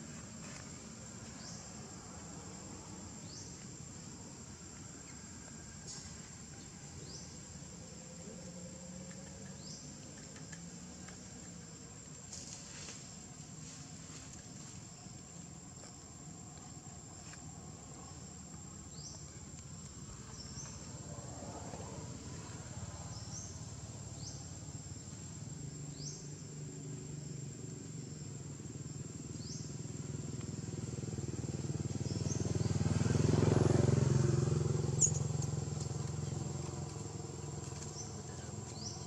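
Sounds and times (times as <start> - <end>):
high insect drone: 0.0 - 39.0
low motor rumble: 0.0 - 39.0.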